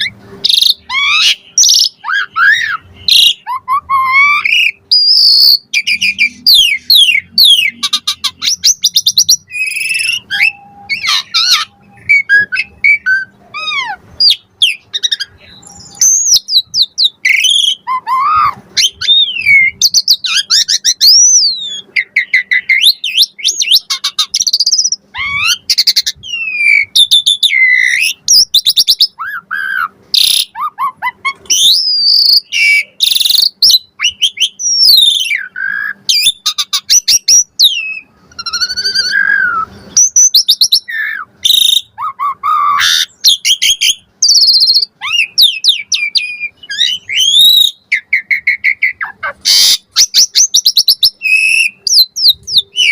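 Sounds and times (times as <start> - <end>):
starling singing: 0.0 - 52.9.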